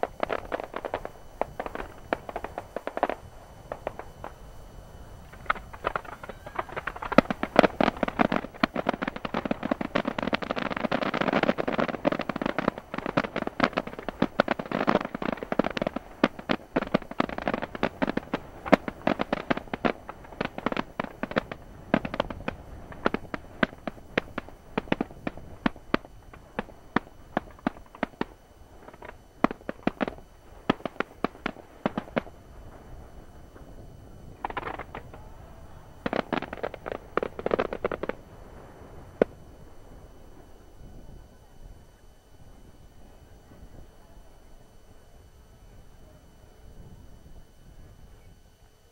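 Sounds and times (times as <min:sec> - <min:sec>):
fireworks launches and bursts: 0:00.0 - 0:41.2.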